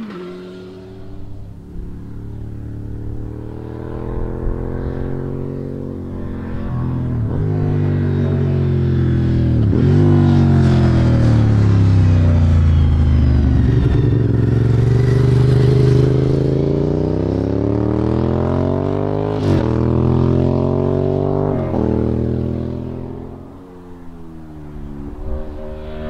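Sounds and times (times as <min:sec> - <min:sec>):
motorcycle engine passing: 0:00.0 - 0:26.0.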